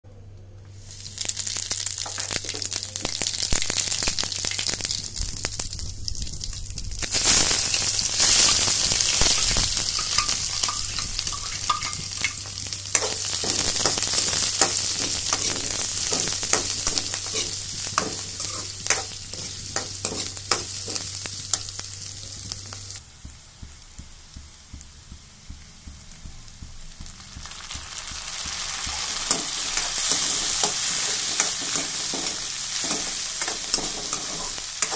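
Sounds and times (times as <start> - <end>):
oil sizzling in a pan: 0.7 - 34.9.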